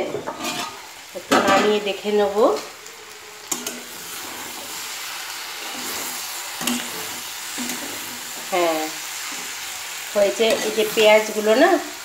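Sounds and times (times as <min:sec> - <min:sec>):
spatula scraping a pan: 0:00.0 - 0:01.8, 0:03.5 - 0:11.4
curry sizzling in a pan: 0:00.0 - 0:12.0.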